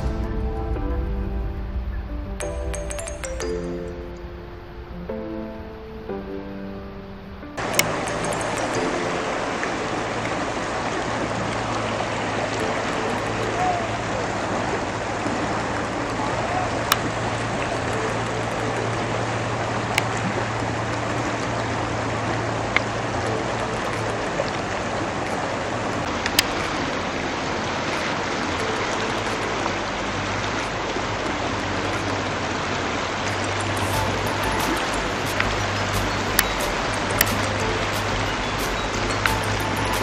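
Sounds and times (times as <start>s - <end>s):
river rushing over stones: 0.0s - 40.0s.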